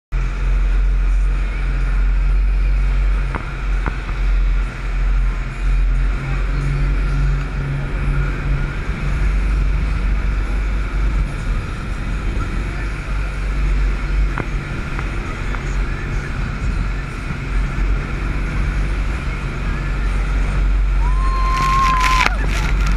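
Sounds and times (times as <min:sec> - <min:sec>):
speedboat engines rumbling: 0:00.2 - 0:22.9.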